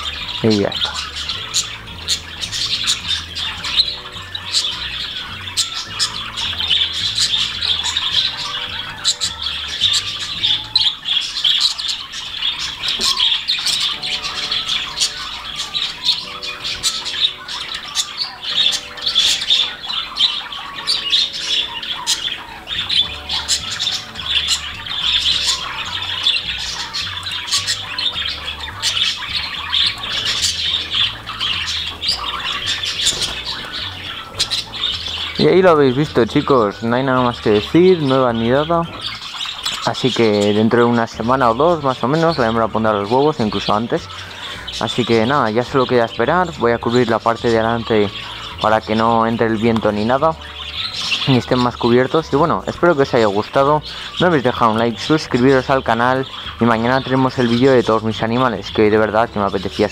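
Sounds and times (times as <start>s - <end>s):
budgerigars chattering and squawking: 0.0s - 59.9s
faint background music with bass: 0.0s - 59.9s.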